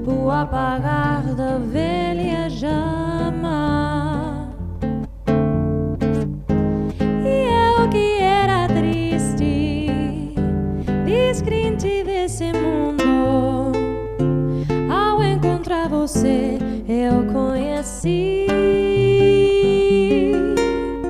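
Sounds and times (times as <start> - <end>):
woman singing with vibrato: 0.0 - 4.7, 7.2 - 13.9, 14.9 - 21.0
plucked nylon-string guitar: 0.0 - 21.0.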